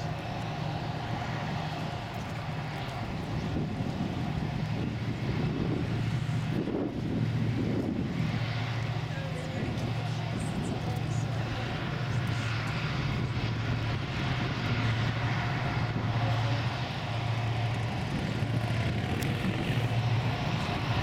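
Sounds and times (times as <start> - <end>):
diesel engines droning: 0.0 - 21.0
propeller wash churning: 0.0 - 21.0.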